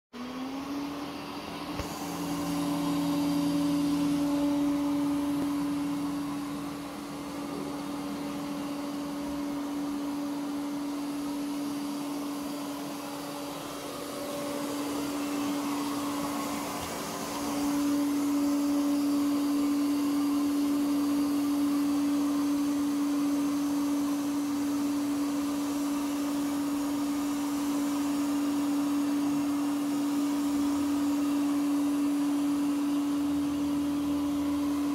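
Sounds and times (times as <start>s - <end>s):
robot vacuum humming: 0.2s - 34.9s.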